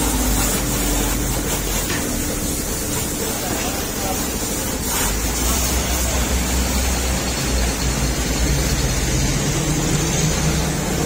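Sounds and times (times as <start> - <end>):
low machine drone with hiss: 0.0 - 11.0.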